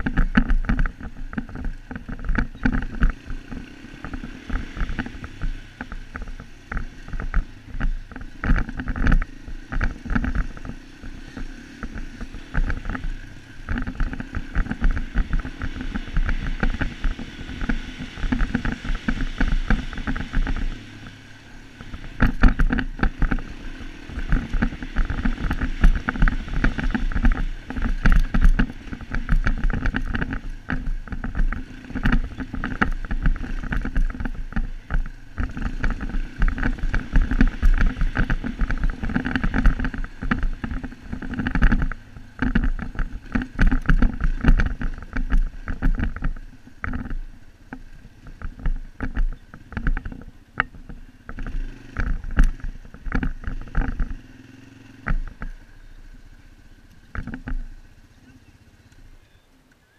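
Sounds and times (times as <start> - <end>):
knocks and rattles from bumps: 0.0 - 55.8, 56.9 - 57.9
quad bike engine running: 0.0 - 59.9.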